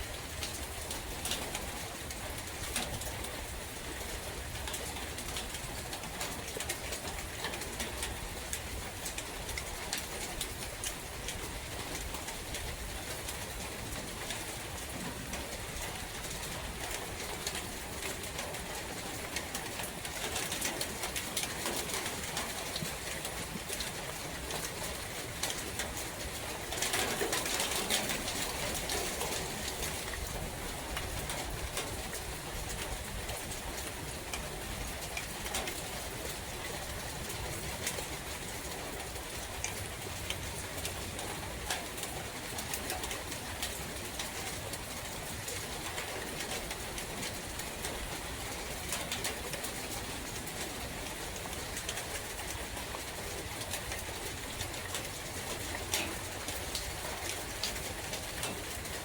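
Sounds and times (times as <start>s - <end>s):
rain: 0.0s - 59.0s
wind in a forest: 0.0s - 59.0s.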